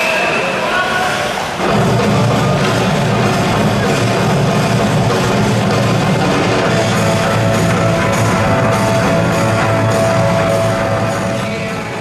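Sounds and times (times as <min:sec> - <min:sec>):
loud rock music: 0:01.5 - 0:12.0.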